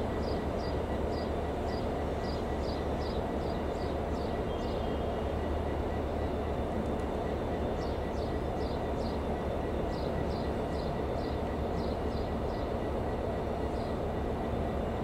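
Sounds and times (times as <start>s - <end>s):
train engine and wheels rumbling: 0.0s - 15.0s.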